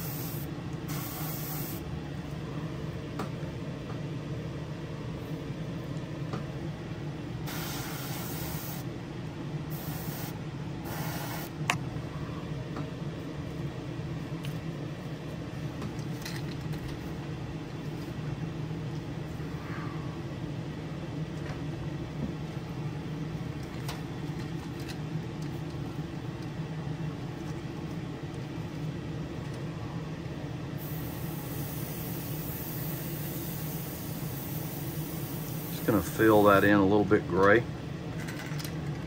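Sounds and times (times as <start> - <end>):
exhaust fan humming: 0.0 - 39.0.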